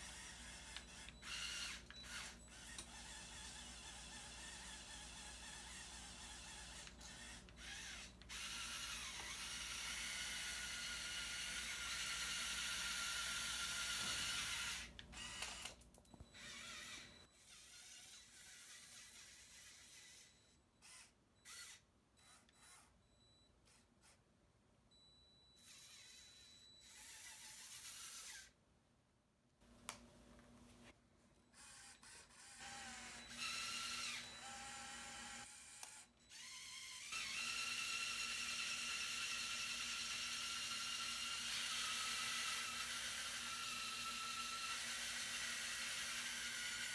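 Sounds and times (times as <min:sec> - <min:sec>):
toy electric motors whirring: 0:00.0 - 0:23.0, 0:25.6 - 0:28.6, 0:31.5 - 0:46.9.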